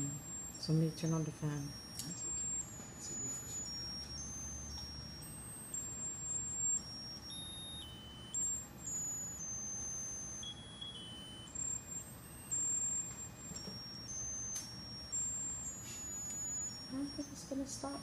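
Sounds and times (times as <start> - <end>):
high electronic beeping melody: 0.0 - 18.0.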